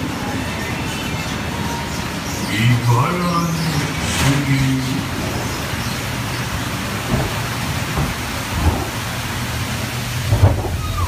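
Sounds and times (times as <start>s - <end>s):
water rushing along channel: 0.0s - 11.0s.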